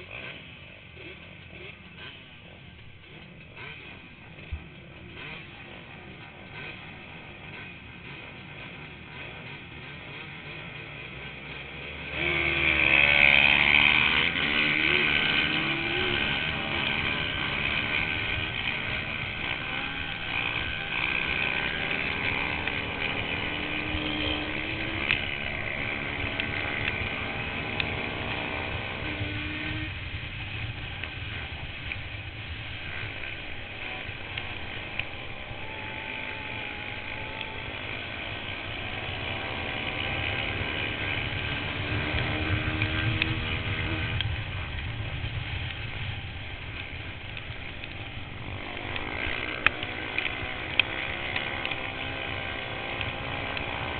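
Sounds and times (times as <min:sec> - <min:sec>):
quad engine revving: 0:00.0 - 0:53.9.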